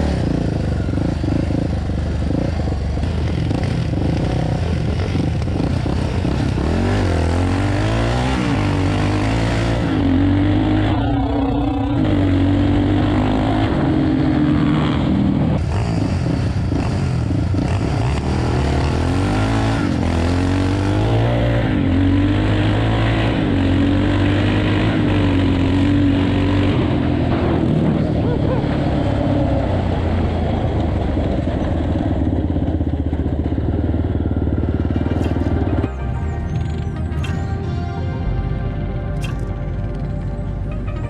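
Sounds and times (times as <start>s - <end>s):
quad engine running hard: 0.0s - 41.0s.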